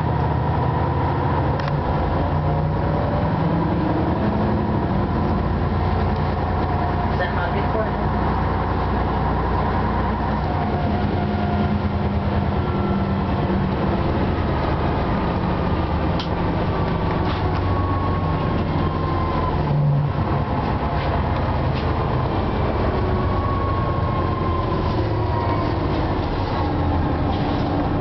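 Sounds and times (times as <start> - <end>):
bus diesel engine running: 0.0 - 28.0
road rumble: 0.0 - 28.0.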